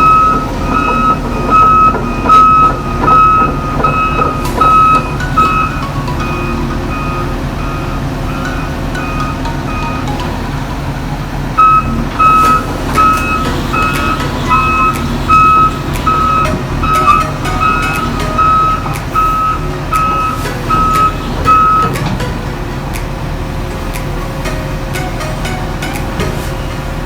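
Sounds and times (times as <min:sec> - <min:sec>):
backup alarm beeping: 0:00.0 - 0:23.1
diesel engine running: 0:00.0 - 0:27.0.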